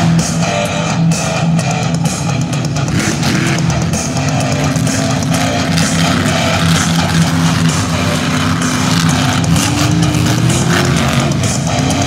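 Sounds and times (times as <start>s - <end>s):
loud rock music: 0.0s - 12.0s.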